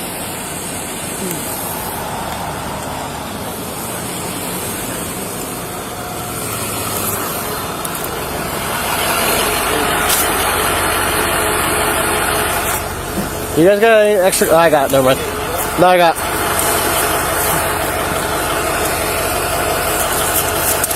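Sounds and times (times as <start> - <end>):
vehicle engine idling: 0.0 - 20.9.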